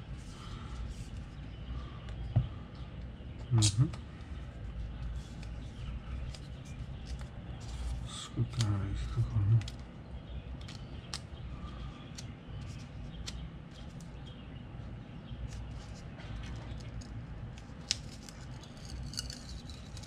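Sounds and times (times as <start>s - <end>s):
low steady background rumble: 0.0s - 20.0s.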